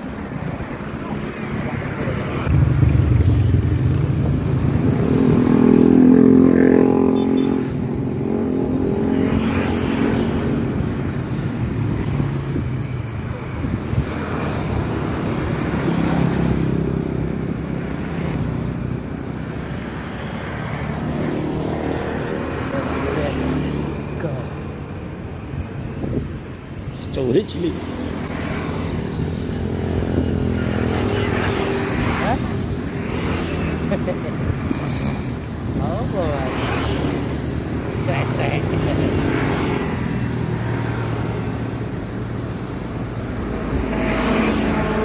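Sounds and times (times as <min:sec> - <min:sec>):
motorcycles passing: 0:00.0 - 0:45.0.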